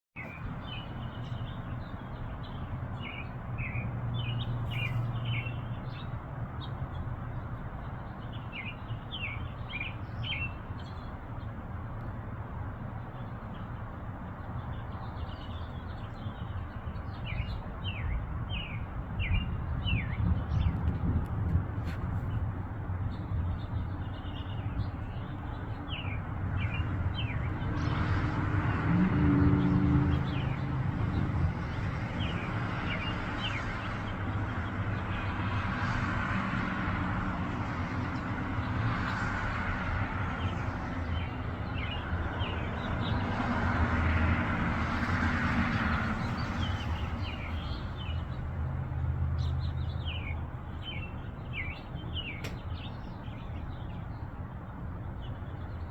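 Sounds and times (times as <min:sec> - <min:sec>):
small birds chirping: 0:00.2 - 0:12.2, 0:12.8 - 0:28.2, 0:30.1 - 0:36.0, 0:37.6 - 0:43.5, 0:44.8 - 0:55.9
passing road traffic: 0:00.2 - 0:55.9.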